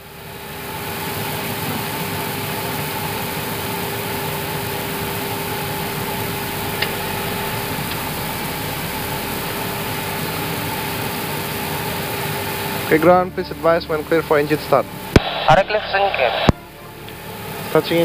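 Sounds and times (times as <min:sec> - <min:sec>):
air-conditioning hiss and hum: 0:00.0 - 0:18.0.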